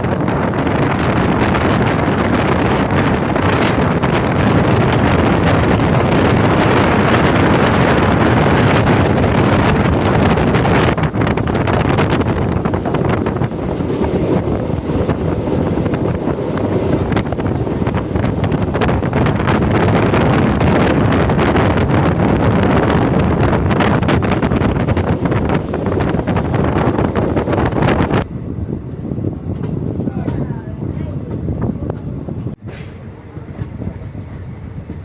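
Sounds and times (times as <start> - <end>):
train rumbling on track: 0.0 - 35.0
wind on microphone: 0.0 - 35.0.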